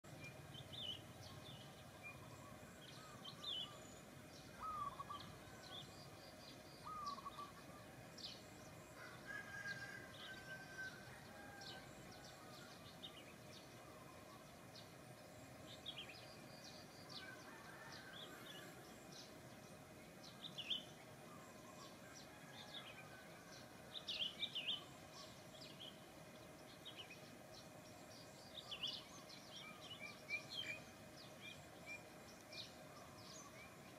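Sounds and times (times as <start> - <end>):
small birds chirping: 0.0 - 10.0, 10.6 - 33.9.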